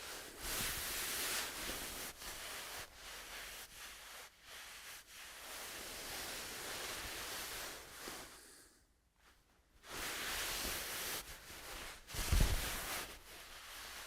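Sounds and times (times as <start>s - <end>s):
fabric rustling: 0.0s - 8.3s, 9.2s - 14.0s.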